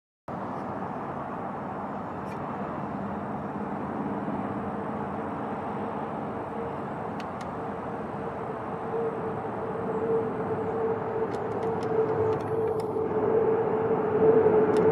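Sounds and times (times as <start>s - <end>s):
engine drone: 0.3s - 14.9s.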